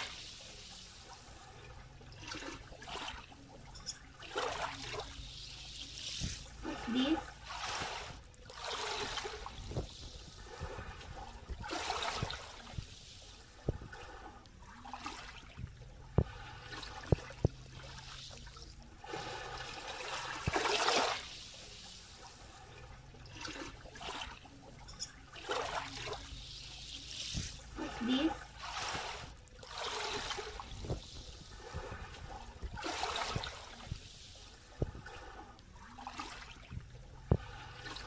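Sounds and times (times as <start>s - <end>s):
small waves lapping on shore: 0.0s - 38.0s.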